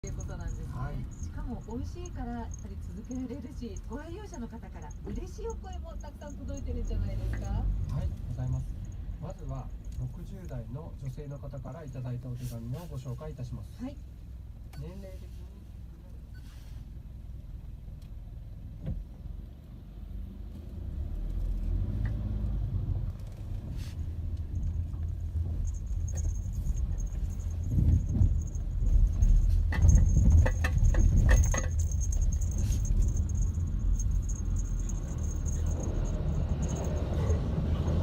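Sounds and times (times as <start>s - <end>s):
vehicle rumbling over crossing: 0.0s - 14.7s, 16.7s - 38.0s.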